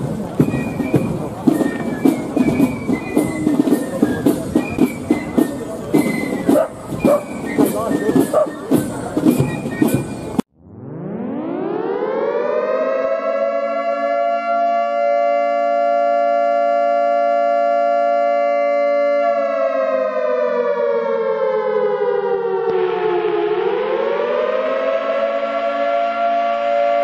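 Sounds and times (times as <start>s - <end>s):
air-raid siren: 0.3s - 27.0s.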